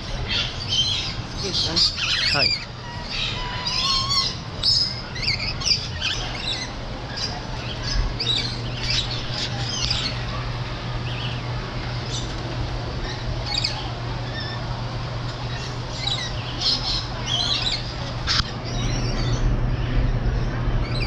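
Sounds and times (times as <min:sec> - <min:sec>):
parrots squawking and chirping: 0:00.0 - 0:10.4, 0:11.0 - 0:12.4, 0:13.0 - 0:19.4
steady low hum: 0:00.0 - 0:21.0.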